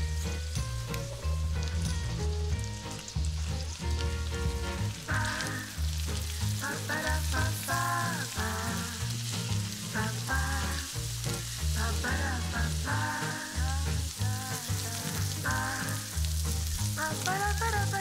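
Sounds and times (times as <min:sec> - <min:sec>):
background music: 0:00.0 - 0:18.0
corn sizzling in a pan: 0:00.0 - 0:18.0.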